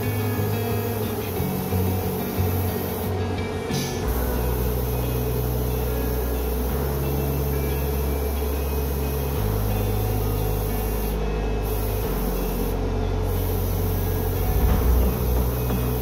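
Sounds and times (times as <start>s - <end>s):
slow ambient music: 0.0s - 16.0s
steady hiss: 0.0s - 16.0s.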